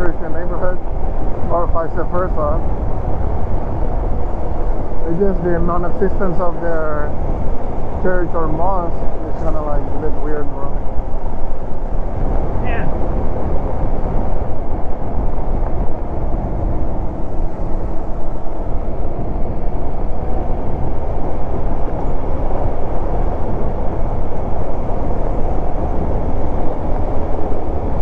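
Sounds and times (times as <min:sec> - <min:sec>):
wind and tyre noise: 0:00.0 - 0:28.0
motorcycle engine at speed: 0:00.4 - 0:28.0.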